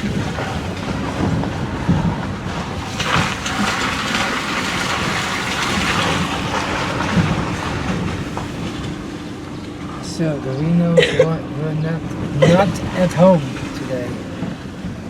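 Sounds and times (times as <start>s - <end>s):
tyres rumbling on rough road: 0.0s - 15.0s.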